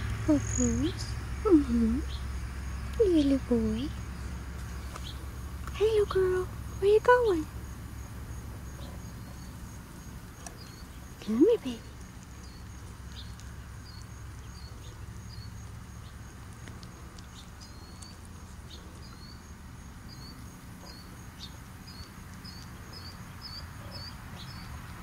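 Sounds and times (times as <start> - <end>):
small bird chirping: 0.0 - 25.0
steady low hum: 0.0 - 25.0.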